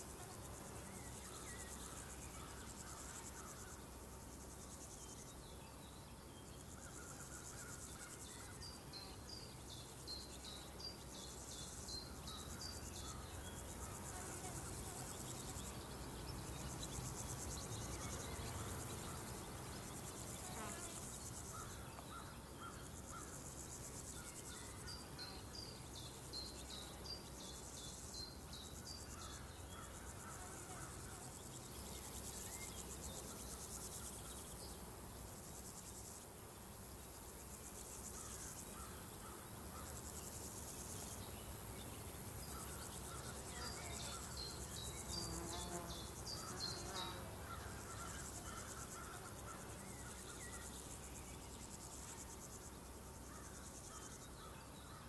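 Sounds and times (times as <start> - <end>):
high-pitched insect sound: 0.0 - 55.0
insects chirring: 0.0 - 55.0.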